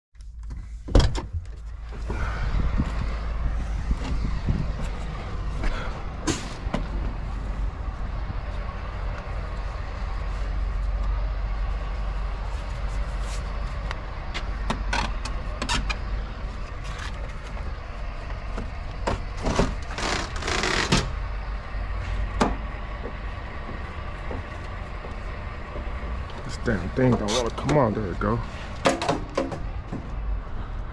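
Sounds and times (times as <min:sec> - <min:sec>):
diesel truck engine idling: 0:01.6 - 0:20.4, 0:21.0 - 0:30.9.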